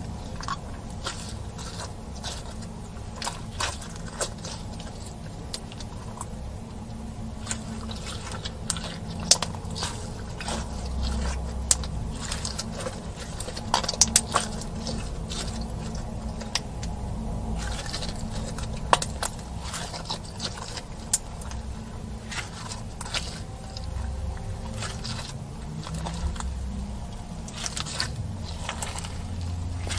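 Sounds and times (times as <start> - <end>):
slime kneaded by hand: 0.0 - 29.9.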